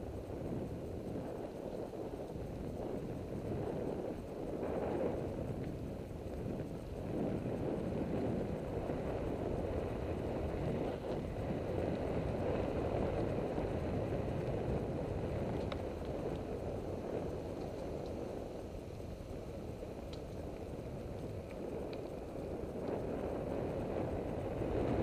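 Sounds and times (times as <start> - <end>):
bicycle tyres crunching on gravel: 0.0 - 25.0
wind rumble on microphone: 0.0 - 25.0.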